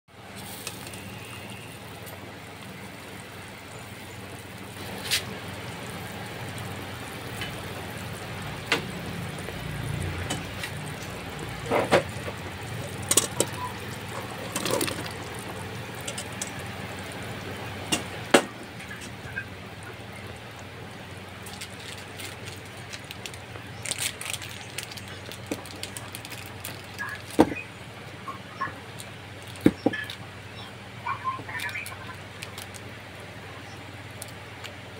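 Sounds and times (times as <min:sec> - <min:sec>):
soup bubbling in a pot: 0:00.1 - 0:28.2.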